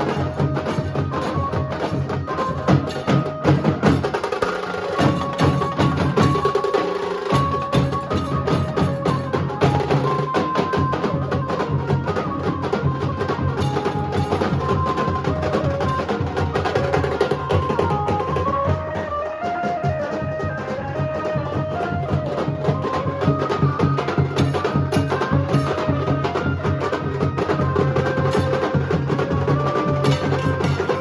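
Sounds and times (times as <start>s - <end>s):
drums beating fast rhythm: 0.0s - 19.1s, 19.7s - 31.0s.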